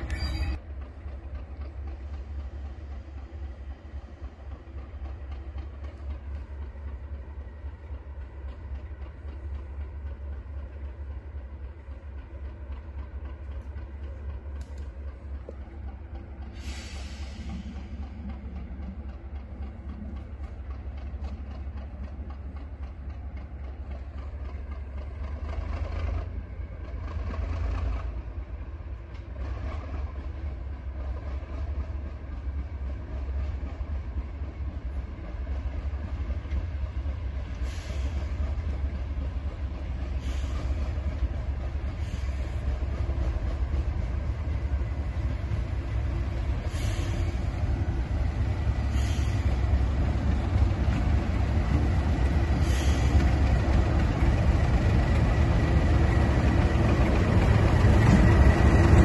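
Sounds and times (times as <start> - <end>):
diesel train rumbling: 0.0 - 59.0
train clanks: 0.0 - 59.0.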